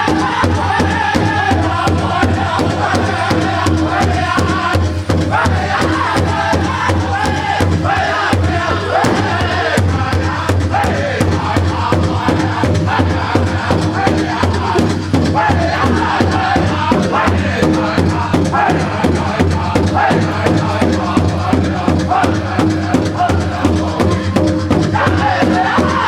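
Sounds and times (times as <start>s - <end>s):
big drum beat: 0.0s - 26.0s
group singing high-pitched chant: 0.0s - 26.0s.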